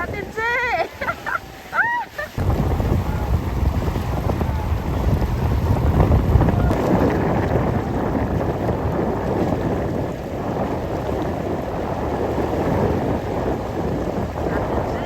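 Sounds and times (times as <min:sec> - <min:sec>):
ocean surf rushing: 0:00.0 - 0:15.0
wind buffeting microphone: 0:00.0 - 0:15.0.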